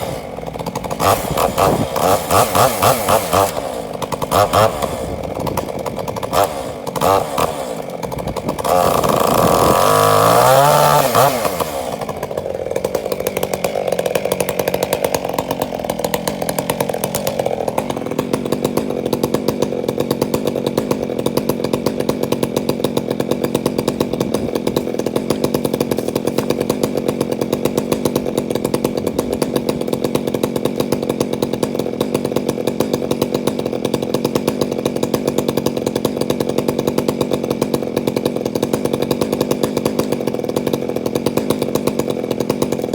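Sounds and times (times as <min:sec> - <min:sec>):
chainsaw revving and running: 0:00.0 - 0:42.9.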